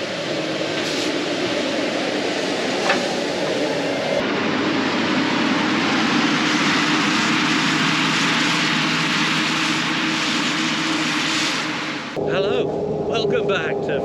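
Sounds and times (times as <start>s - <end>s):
forage harvester running: 0.0s - 14.0s.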